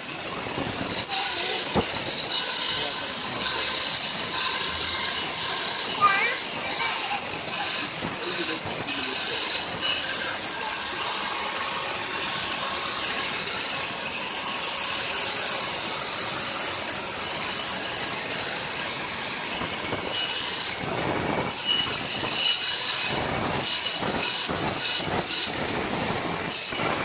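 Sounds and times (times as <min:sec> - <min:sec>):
angle grinder running: 0:00.0 - 0:27.0
grinder grinding stone: 0:00.0 - 0:27.0.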